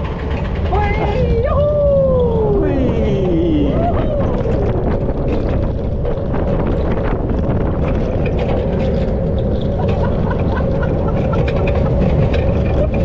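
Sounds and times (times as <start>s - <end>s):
constant whine: 0.0s - 13.0s
roller coaster wheels rumbling: 0.0s - 13.0s.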